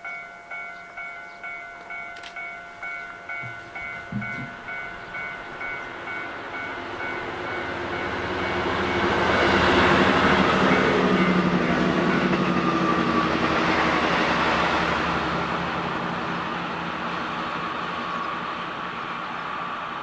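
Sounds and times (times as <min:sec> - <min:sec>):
railway warning bell: 0:00.0 - 0:20.0
train engine and wheels: 0:00.0 - 0:20.0.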